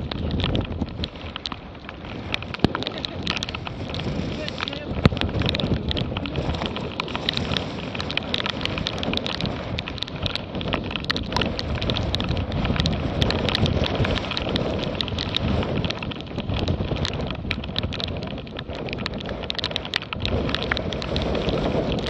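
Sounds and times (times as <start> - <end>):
spray ticking on camera: 0.0 - 22.0
water rushing along hulls: 0.0 - 22.0
wind noise: 0.0 - 22.0.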